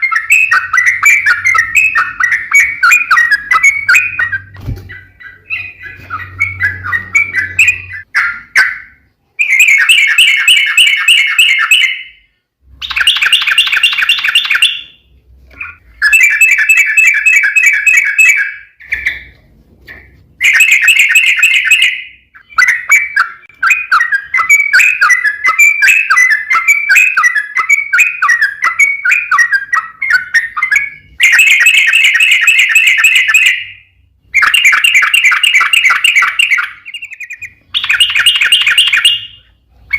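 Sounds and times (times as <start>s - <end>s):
bird singing rolling trills: 0.0s - 19.4s, 20.0s - 39.9s.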